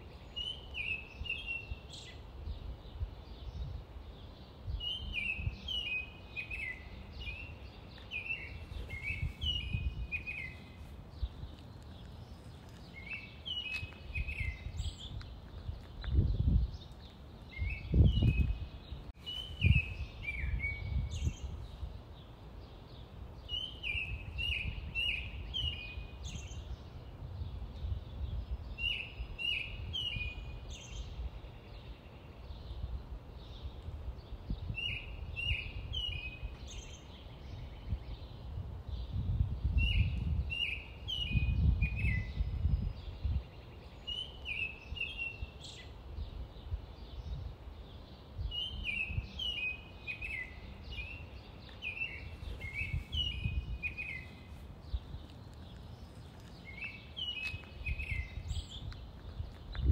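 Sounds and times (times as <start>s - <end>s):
songbird chirping phrases: 0.0s - 59.9s.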